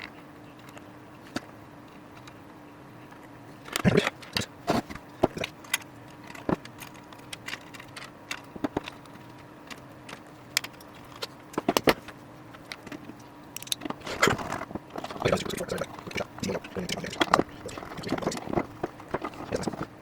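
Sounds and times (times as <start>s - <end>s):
faint steady hum: 0.0s - 20.0s
small clicks and rattles: 3.1s - 20.0s.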